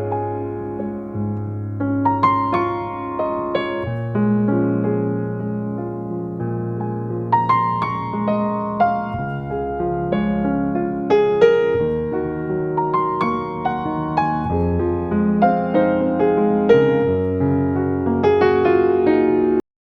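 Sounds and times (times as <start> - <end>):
solo piano music: 0.0 - 19.6.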